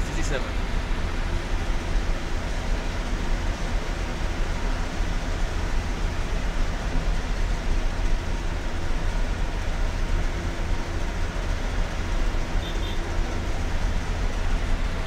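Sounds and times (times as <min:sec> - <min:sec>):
car engine rumbling: 0:00.0 - 0:15.0
tyres hissing on wet road: 0:00.0 - 0:15.0.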